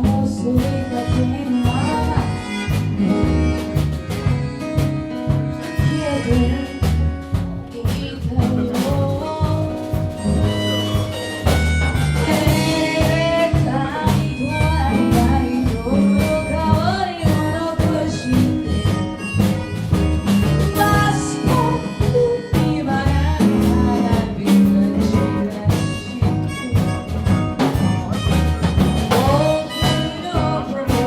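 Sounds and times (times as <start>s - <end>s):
repeating bass line: 0.0s - 31.0s
sliding lead melody: 0.0s - 31.0s.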